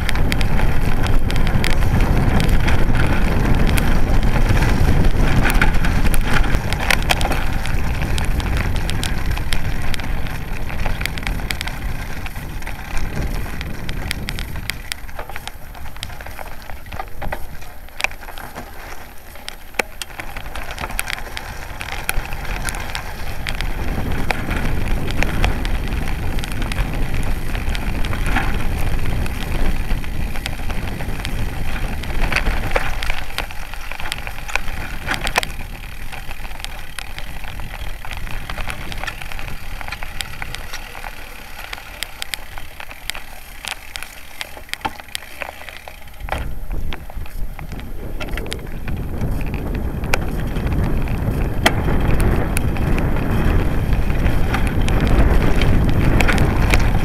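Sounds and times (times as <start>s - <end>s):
bike tyres rumbling on gravel: 0.0s - 57.0s
clicks and rattles from stones: 0.0s - 57.0s
wind buffeting microphone: 0.0s - 57.0s.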